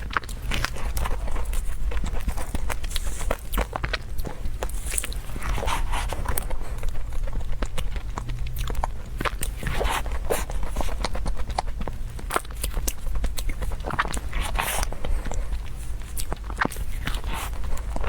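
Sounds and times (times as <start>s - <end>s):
chewing and biting: 0.0s - 18.0s.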